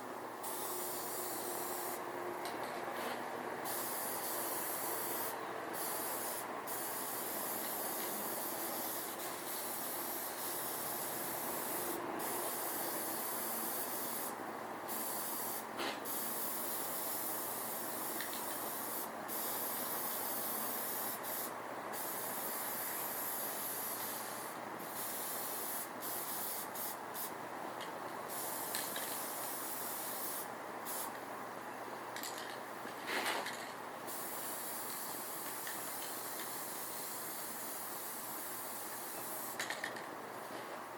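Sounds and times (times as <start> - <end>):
spray paint hissing: 0.4 - 2.0, 3.6 - 27.3, 28.3 - 31.2, 34.1 - 39.8.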